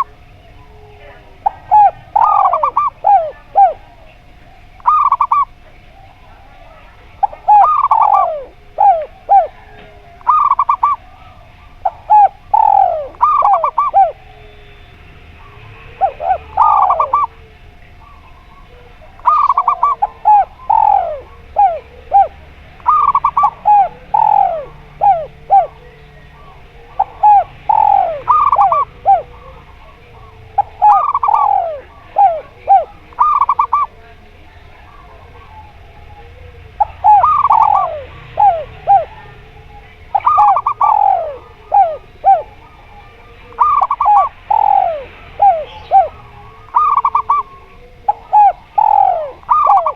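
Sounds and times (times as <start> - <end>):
doves cooing: 0.0 - 49.9.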